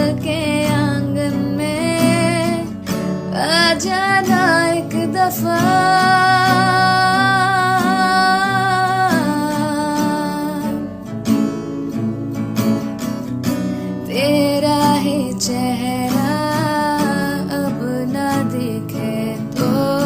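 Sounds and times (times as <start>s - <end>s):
person singing: 0.0s - 10.9s, 14.1s - 20.0s
acoustic guitar: 0.0s - 20.0s.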